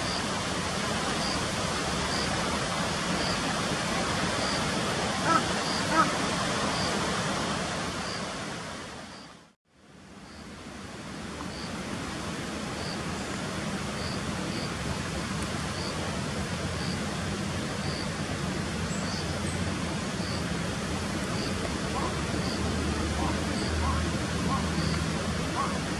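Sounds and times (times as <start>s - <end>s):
outdoor background hiss: 0.0s - 25.9s.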